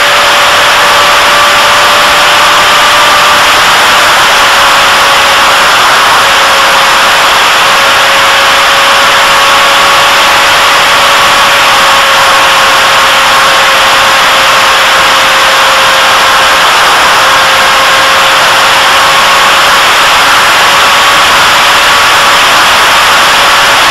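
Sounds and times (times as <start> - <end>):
model airplane motor whine: 0.0 - 23.9.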